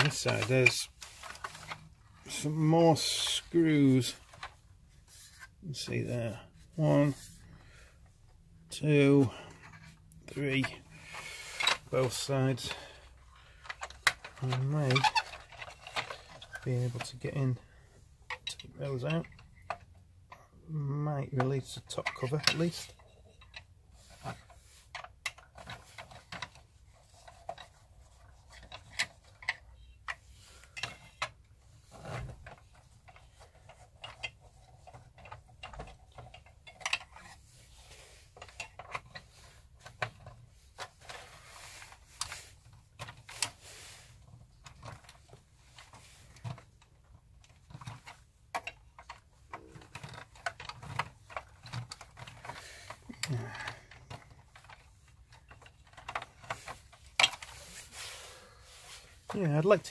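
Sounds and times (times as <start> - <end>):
plastic parts clicking and knocking: 0.0 - 59.9.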